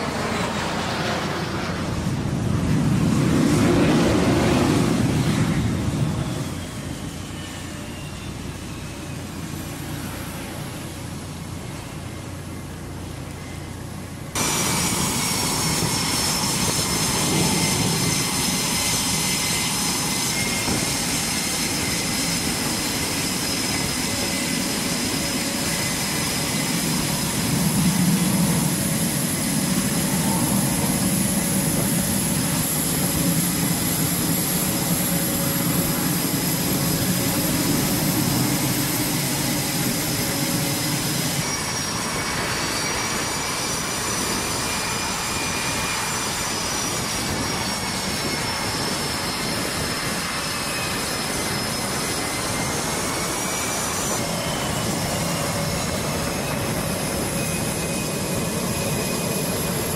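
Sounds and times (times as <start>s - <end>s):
jet engines running with whine: 0.0s - 59.9s.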